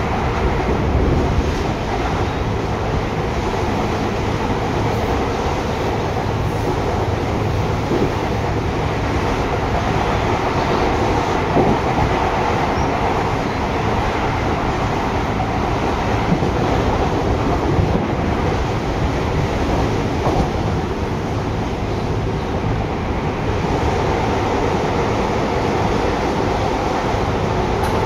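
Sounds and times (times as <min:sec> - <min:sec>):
electric train running rumble: 0:00.0 - 0:28.0.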